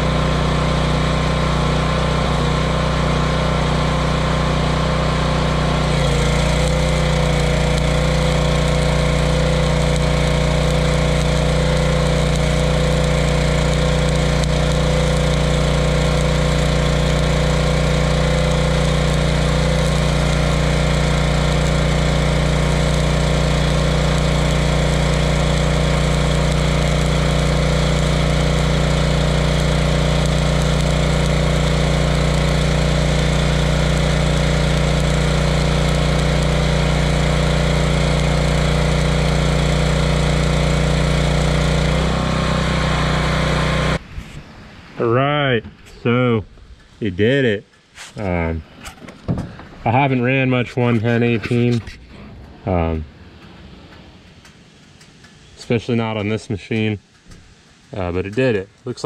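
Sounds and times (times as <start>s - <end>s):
welding arc crackling and hissing: 0.0s - 44.0s, 49.8s - 59.0s
generator engine hum: 0.0s - 59.0s.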